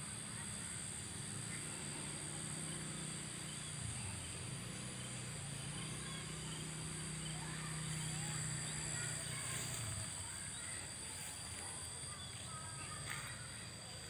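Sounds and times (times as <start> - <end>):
insects chirring: 0.0 - 14.0
low steady hum: 0.0 - 14.0.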